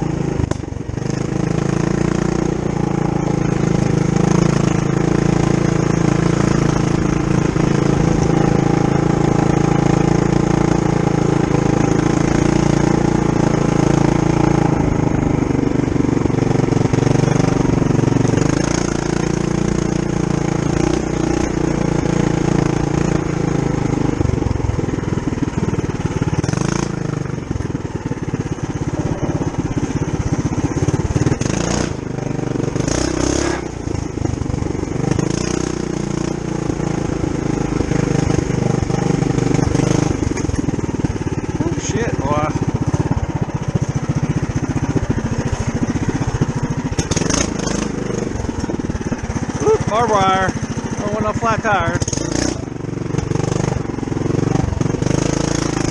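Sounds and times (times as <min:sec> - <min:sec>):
mini bike engine running: 0:00.0 - 0:55.9.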